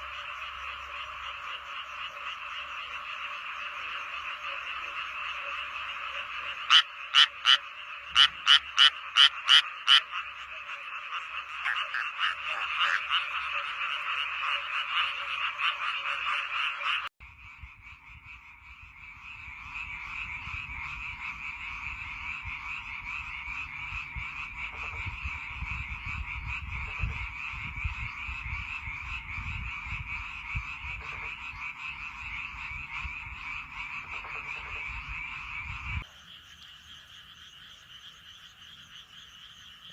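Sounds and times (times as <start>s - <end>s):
frog chorus: 0.0s - 39.9s
loud sharp frog calls: 0.0s - 39.9s.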